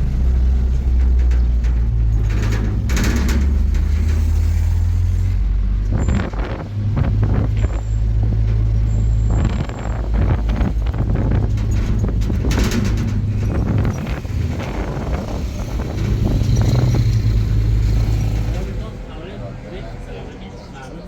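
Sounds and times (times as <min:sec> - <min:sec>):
wind noise: 0:00.0 - 0:18.5
vehicle engine rumbling: 0:00.0 - 0:21.0.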